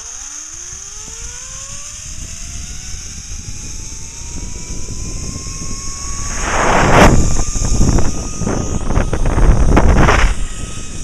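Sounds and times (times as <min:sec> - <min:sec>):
zip line pulleys whining: 0:00.0 - 0:11.0
wind on microphone: 0:02.0 - 0:11.0.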